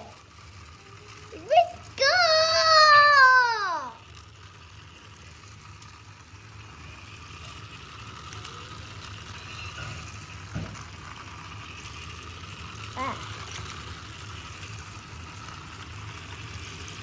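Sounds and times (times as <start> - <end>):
toy car motor whirring: 0.0 - 17.0.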